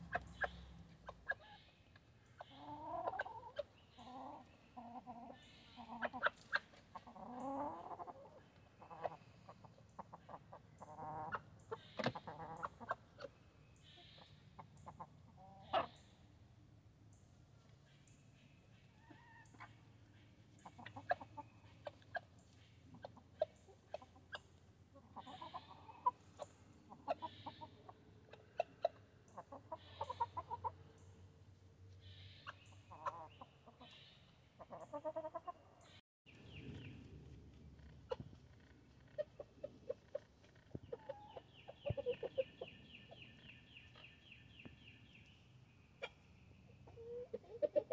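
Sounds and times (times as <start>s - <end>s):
chickens clucking: 0.0s - 36.9s, 37.9s - 45.4s, 46.0s - 47.9s.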